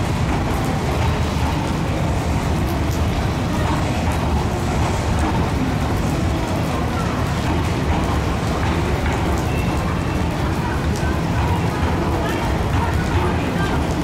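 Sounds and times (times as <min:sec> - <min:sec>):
railway equipment rumbling: 0:00.0 - 0:14.0.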